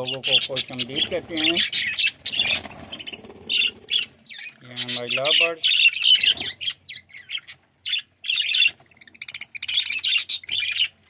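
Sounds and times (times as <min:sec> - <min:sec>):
budgerigars chirping: 0:00.0 - 0:11.0.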